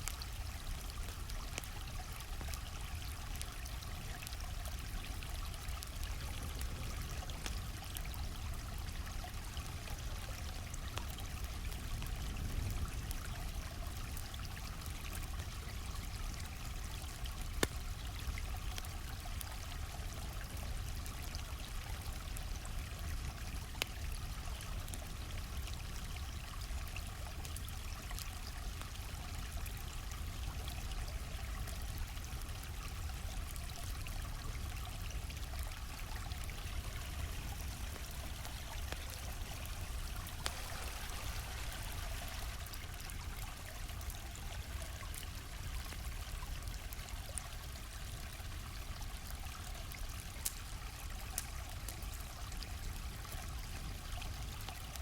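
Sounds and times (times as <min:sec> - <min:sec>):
campfire crackling: 0:00.0 - 0:55.0
stream flowing: 0:00.0 - 0:55.0.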